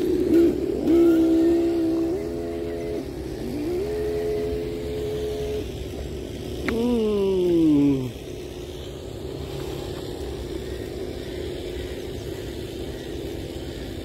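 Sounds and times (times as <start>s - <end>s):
toy car motor whining: 0.0s - 14.0s.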